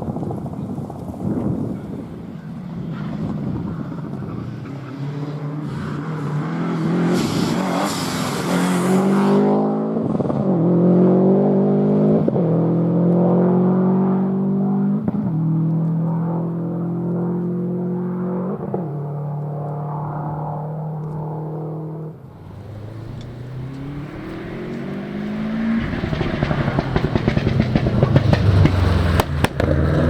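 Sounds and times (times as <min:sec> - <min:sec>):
rally car engine accelerating: 0:00.0 - 0:30.0.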